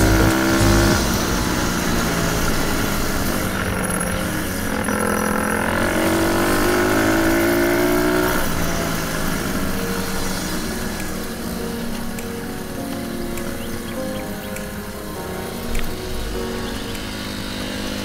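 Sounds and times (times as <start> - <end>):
dirt bike engine revving: 0.0 - 12.1, 15.5 - 18.0.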